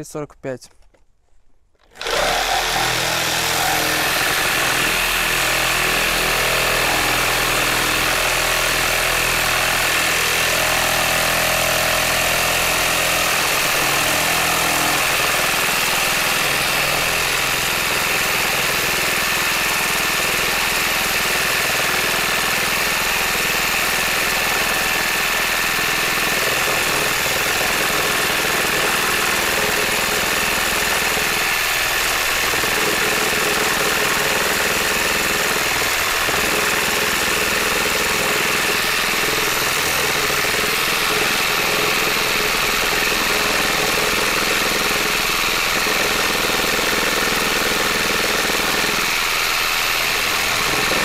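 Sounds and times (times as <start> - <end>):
reciprocating saw cutting wood: 1.8 - 51.0.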